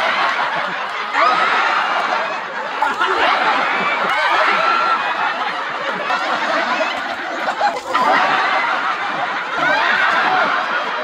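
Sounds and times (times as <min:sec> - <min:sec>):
crowd laughing and shouting: 0:00.0 - 0:11.0.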